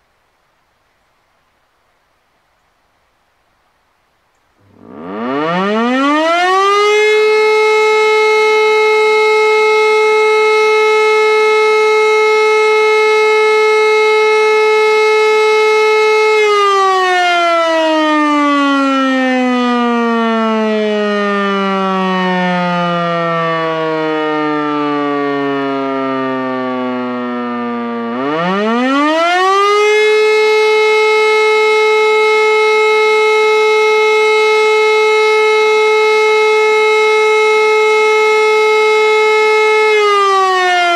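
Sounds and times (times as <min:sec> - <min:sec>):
motor siren winding up and down: 0:04.7 - 0:40.9.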